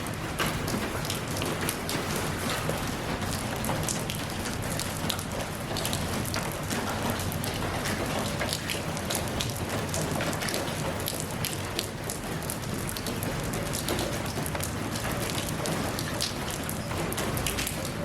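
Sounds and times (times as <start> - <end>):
rain on a hard surface: 0.0 - 18.0.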